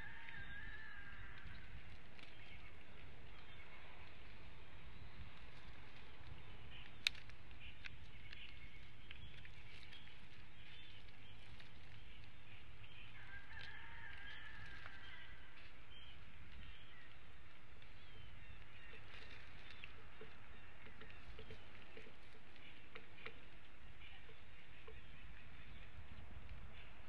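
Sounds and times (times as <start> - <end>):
wild birds calling: 0.0 - 27.0.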